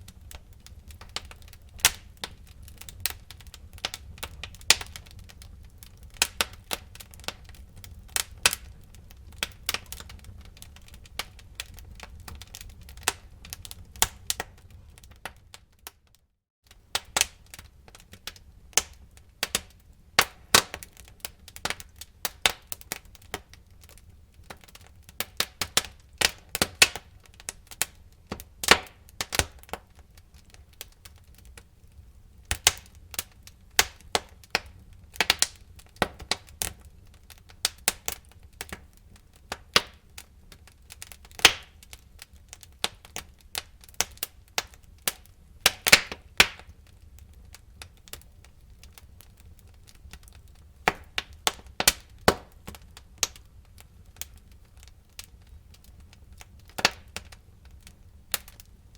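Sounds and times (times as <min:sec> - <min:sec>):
low rumble of fire: 0:00.0 - 0:58.9
wood fire crackling and popping: 0:00.0 - 0:58.9.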